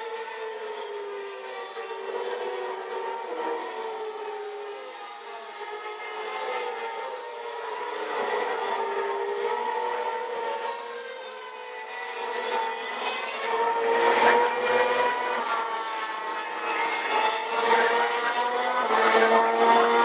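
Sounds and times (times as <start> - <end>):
racing car engines at high revs: 0.0 - 20.0.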